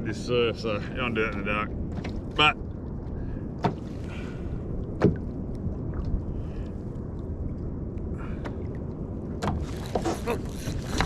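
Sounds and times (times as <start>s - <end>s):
water rumbling around kayak hull: 0.0s - 11.0s.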